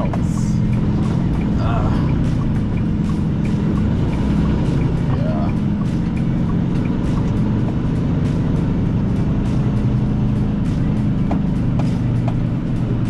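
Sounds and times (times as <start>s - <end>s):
diesel truck engine running: 0.0s - 13.0s
music playing: 0.0s - 13.0s.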